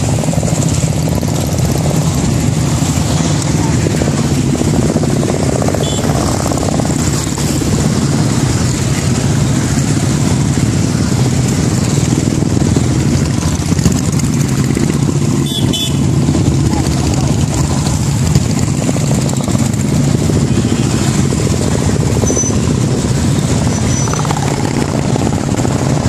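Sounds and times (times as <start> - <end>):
motorcycle engines droning: 0.0 - 26.0.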